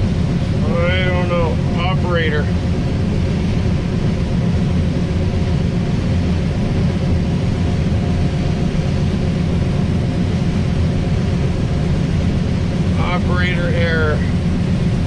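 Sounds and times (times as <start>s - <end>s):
combine harvester rumbling: 0.0s - 15.0s.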